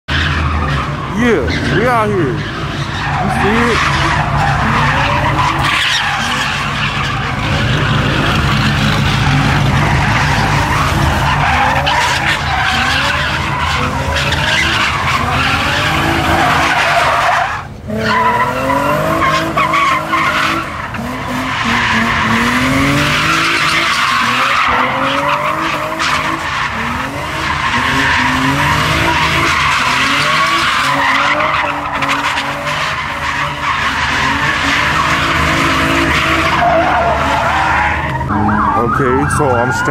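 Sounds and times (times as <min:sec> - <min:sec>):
car engines revving hard: 0:00.0 - 0:39.9
tyres screeching on pavement: 0:00.1 - 0:39.9.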